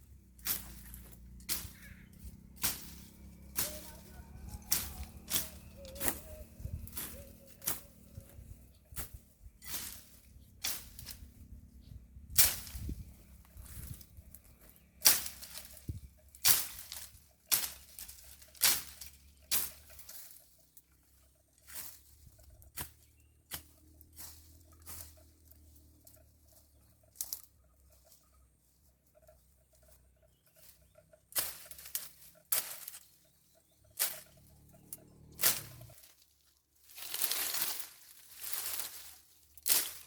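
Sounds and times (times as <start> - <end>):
blade cutting weeds: 0.0 - 28.2, 29.8 - 40.0.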